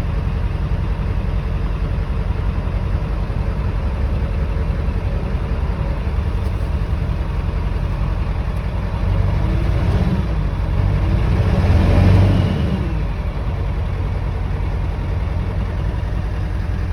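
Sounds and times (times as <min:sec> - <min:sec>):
diesel engine idling and revving: 0:00.0 - 0:16.9.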